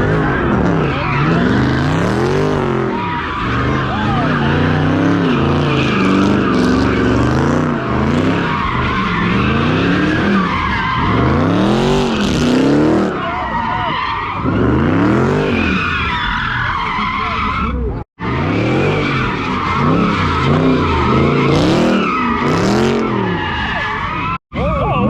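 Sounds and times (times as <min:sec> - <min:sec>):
car engine revving: 0:00.0 - 0:16.2, 0:16.8 - 0:24.4
tires squealing: 0:00.0 - 0:25.0.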